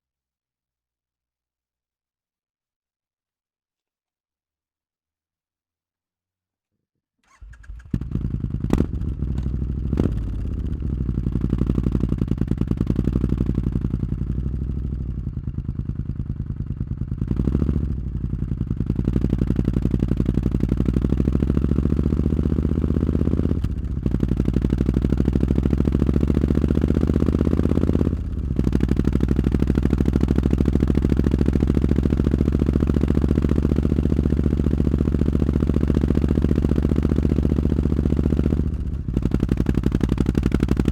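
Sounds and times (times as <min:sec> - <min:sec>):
motorcycle engine idling: 0:07.3 - 0:40.9.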